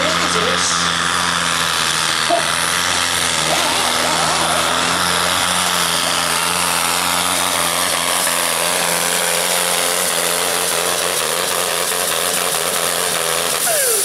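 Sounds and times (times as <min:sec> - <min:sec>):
diesel tractor engine drone: 0:00.0 - 0:14.0.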